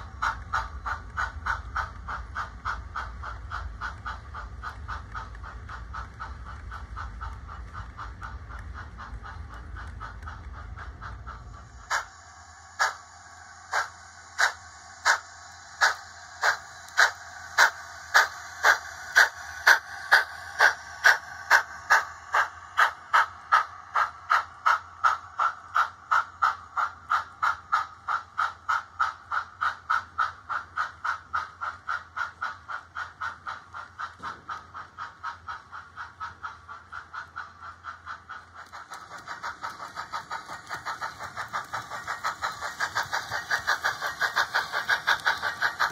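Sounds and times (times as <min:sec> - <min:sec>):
model locomotive steam chuffs: 0:00.0 - 0:45.9
steam hiss: 0:00.0 - 0:45.9.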